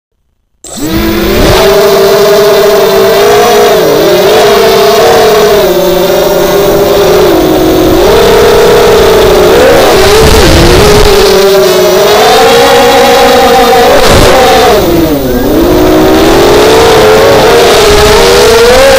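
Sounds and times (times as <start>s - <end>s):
drone motors buzzing whine: 0.6s - 18.9s.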